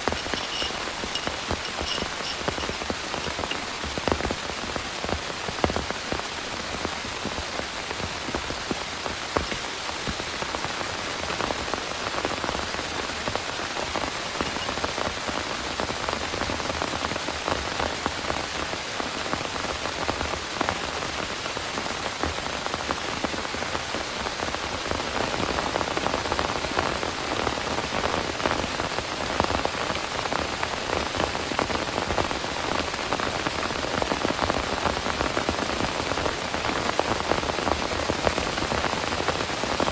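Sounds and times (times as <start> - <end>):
heavy rain: 0.0 - 39.9
raindrops hitting a surface: 0.0 - 39.9.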